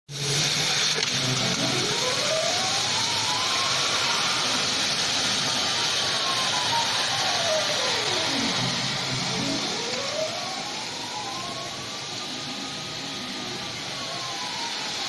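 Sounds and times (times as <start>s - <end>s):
laser cutter motors whining: 0.1s - 15.0s
steady hiss: 0.1s - 15.0s.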